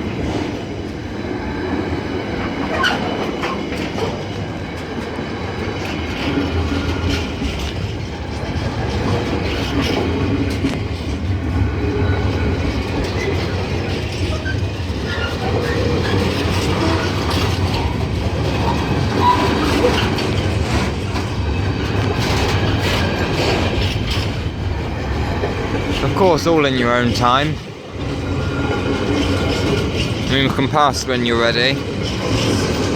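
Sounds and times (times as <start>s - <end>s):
freight wagons rumbling: 0.0s - 32.9s
wheels clicking on rails: 0.0s - 32.9s.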